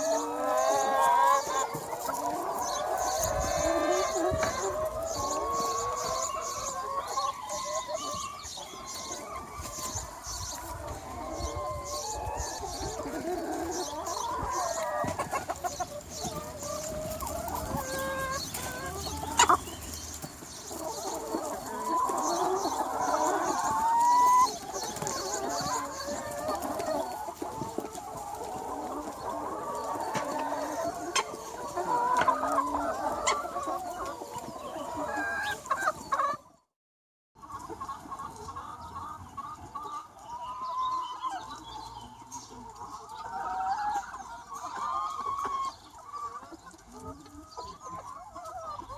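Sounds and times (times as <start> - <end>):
chickens clucking: 0.0 - 36.7, 37.4 - 48.9.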